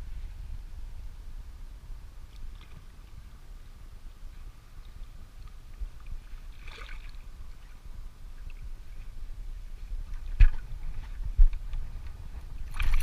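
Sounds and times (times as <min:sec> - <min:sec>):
wind and water around boat: 0:00.0 - 0:13.0.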